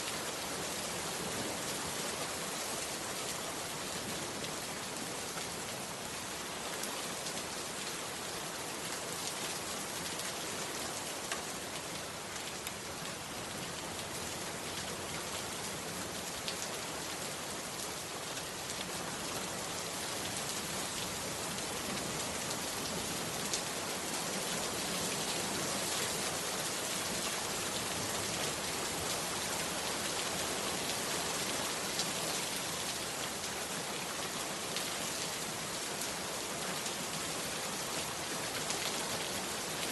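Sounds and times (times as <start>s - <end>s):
heavy rain on a hut: 0.0s - 39.9s.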